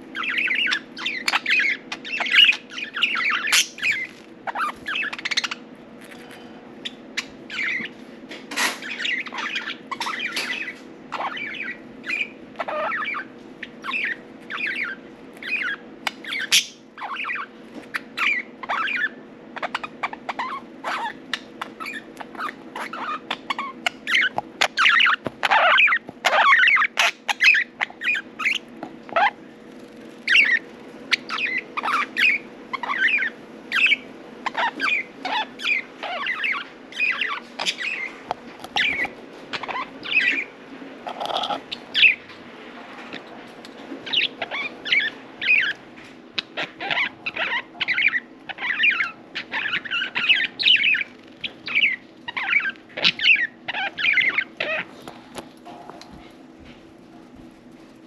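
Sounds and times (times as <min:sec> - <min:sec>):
faint steady hum: 0:00.0 - 0:58.0
budgerigars chirping: 0:00.1 - 0:05.6, 0:06.8 - 0:08.0, 0:08.6 - 0:29.4, 0:30.2 - 0:42.4, 0:44.0 - 0:45.8, 0:46.4 - 0:55.1.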